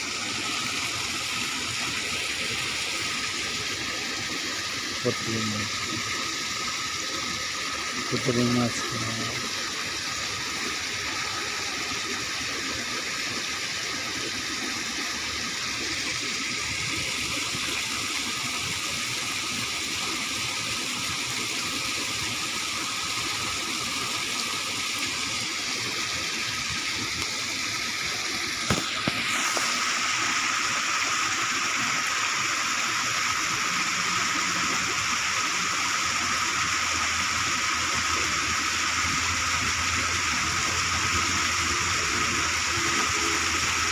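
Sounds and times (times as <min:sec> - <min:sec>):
water rushing from culvert: 0:00.0 - 0:43.9.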